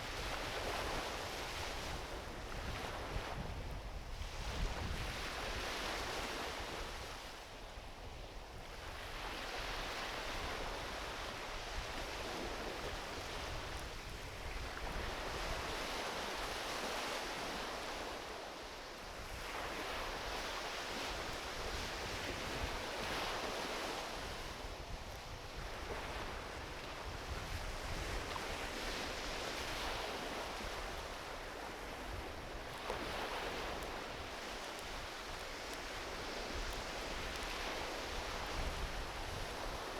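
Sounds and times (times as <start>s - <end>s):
wind rumble on microphone: 0.0s - 18.4s, 19.0s - 39.9s
ocean waves washing onto beach: 0.0s - 39.9s.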